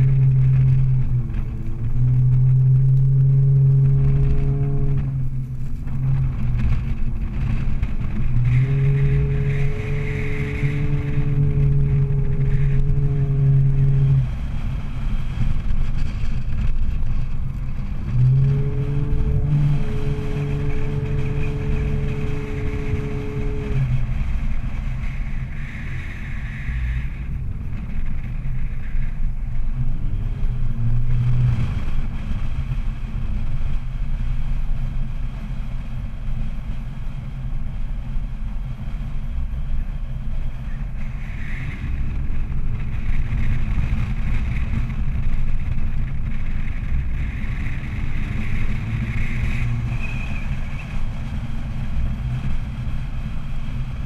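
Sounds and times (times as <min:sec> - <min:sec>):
engine running under load: 0:00.0 - 0:54.0
wind buffeting microphone: 0:00.0 - 0:54.0.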